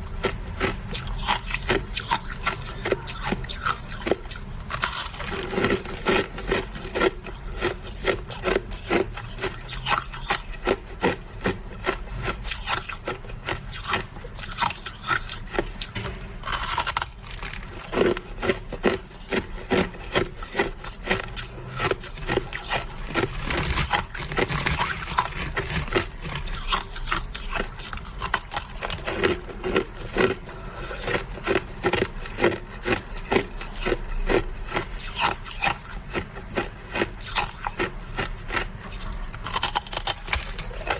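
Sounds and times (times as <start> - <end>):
person chewing ice: 0.0 - 40.9.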